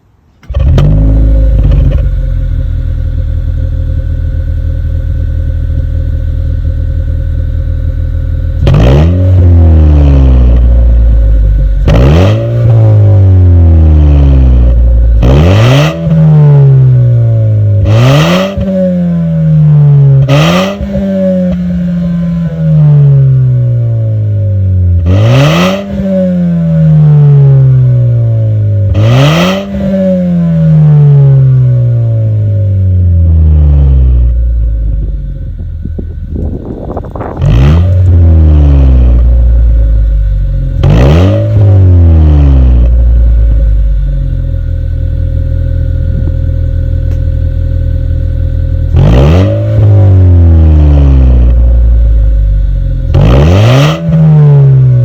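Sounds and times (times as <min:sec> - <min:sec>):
car engine revving: 0:00.4 - 0:04.0, 0:08.5 - 0:55.0.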